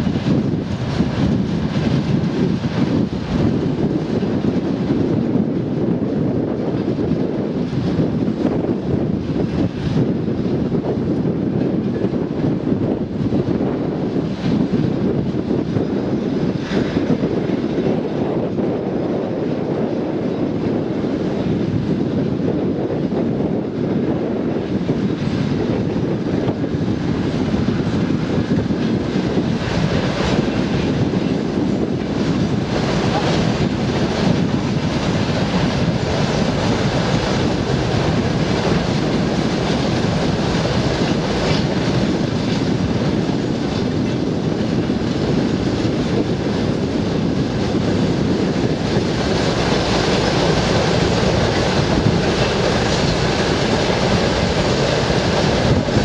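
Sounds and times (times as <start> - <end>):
train rumbling past: 0.0 - 56.0.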